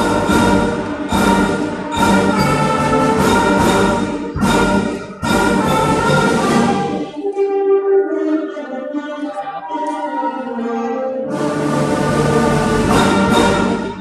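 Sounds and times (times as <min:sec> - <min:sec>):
band playing brass chords: 0:00.0 - 0:10.0, 0:10.6 - 0:14.0.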